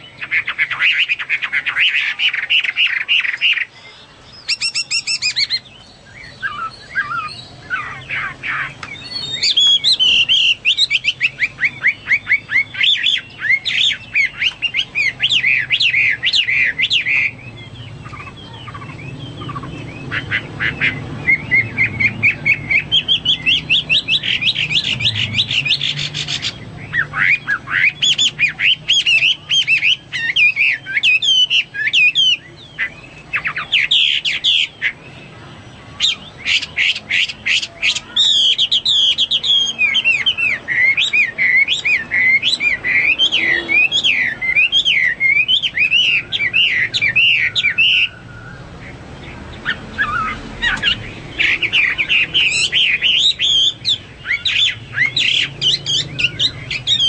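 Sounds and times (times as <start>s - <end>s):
bird singing whistled phrases: 0.0s - 35.2s, 36.0s - 48.7s, 49.6s - 57.0s.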